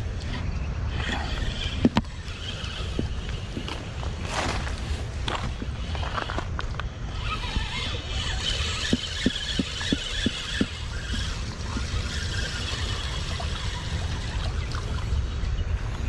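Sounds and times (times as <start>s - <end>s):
fishing reel whirring: 0.0s - 15.9s
steady low rumble: 0.0s - 16.0s.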